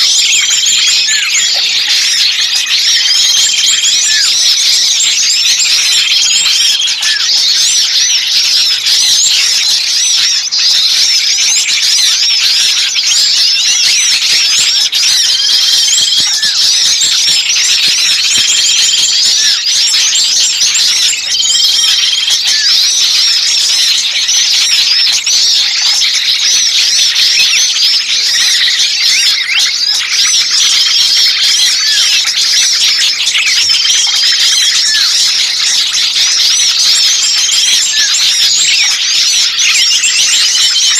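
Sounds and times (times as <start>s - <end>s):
songbirds chirping and chattering: 0.0s - 40.9s.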